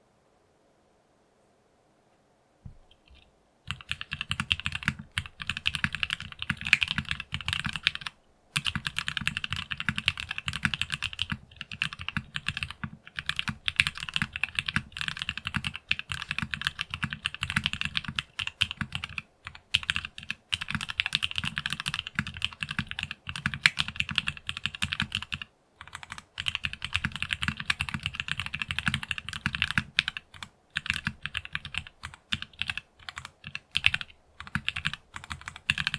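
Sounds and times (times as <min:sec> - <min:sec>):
mechanical keyboard typing: 0:03.0 - 0:35.9.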